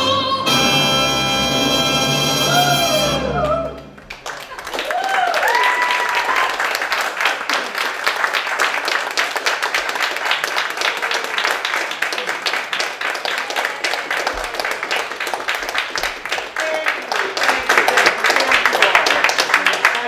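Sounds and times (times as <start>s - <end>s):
audience applauding: 2.5s - 20.0s.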